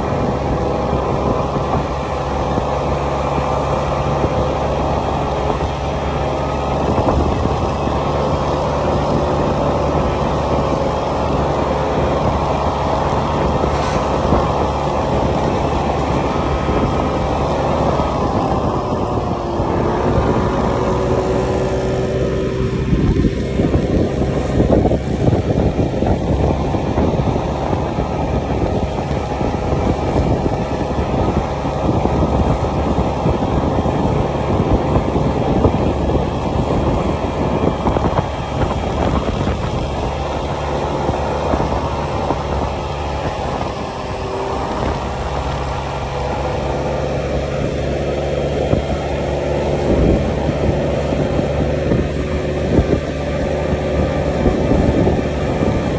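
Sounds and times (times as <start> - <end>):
road and traffic noise: 0.0 - 55.9
scooter engine running: 0.0 - 55.9.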